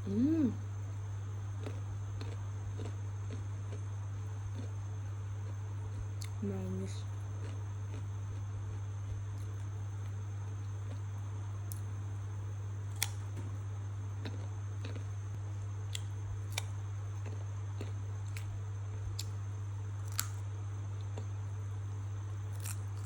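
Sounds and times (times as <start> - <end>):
steady low hum: 0.0 - 23.0
crunchy chewing: 1.3 - 23.0.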